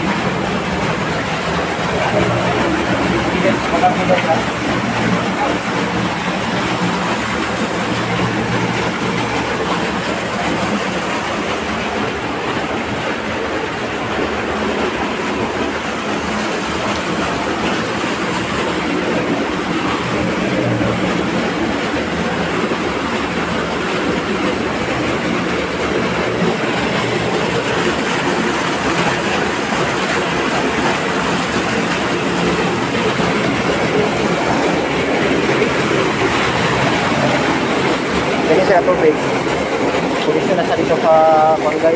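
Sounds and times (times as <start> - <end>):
waterfall rushing into a pool: 0.0 - 41.9.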